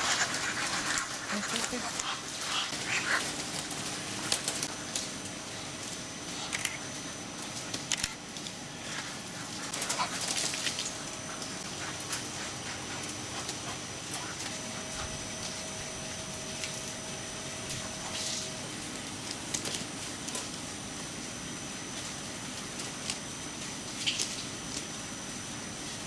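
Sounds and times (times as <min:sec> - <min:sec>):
ventilation fans humming: 0:00.0 - 0:26.0.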